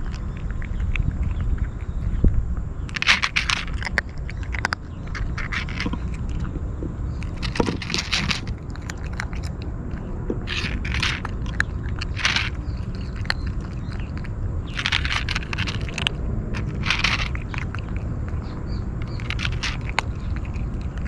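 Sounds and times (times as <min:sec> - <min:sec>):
kitten crunching dry kibble: 0:00.0 - 0:21.0
steady low rumble: 0:00.0 - 0:21.0.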